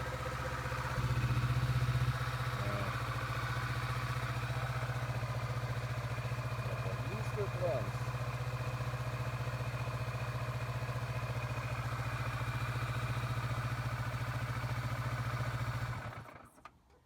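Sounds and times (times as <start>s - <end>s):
motorcycle engine idling: 0.0s - 16.5s.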